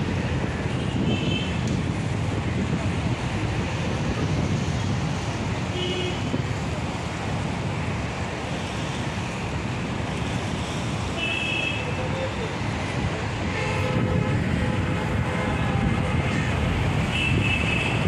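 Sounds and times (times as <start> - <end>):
wind buffeting microphone: 0.0 - 11.2, 11.8 - 18.0
sea and seafront noise: 0.0 - 18.0.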